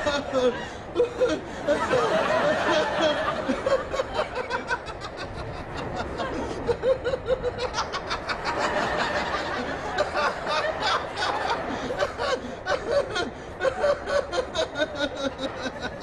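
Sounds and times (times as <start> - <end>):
studio audience laughing: 0.0 - 16.0.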